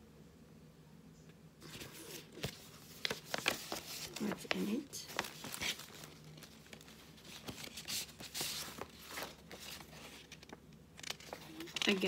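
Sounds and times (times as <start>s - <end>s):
paper envelope rustling: 1.6s - 12.0s.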